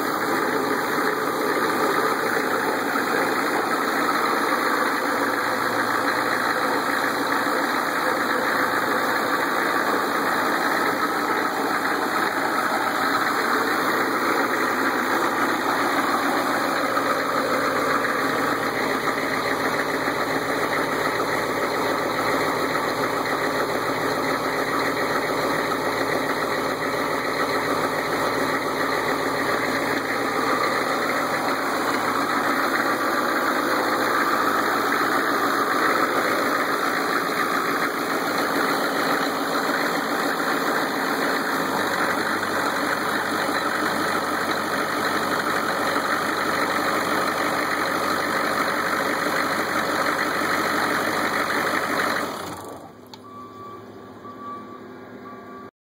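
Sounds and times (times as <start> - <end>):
diesel engine running: 0.0 - 55.7.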